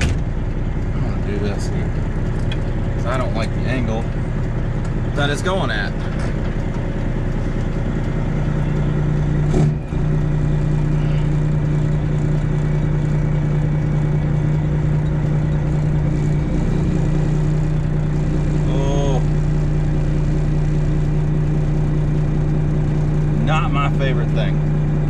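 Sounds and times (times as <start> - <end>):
diesel truck engine humming: 0.0 - 25.0.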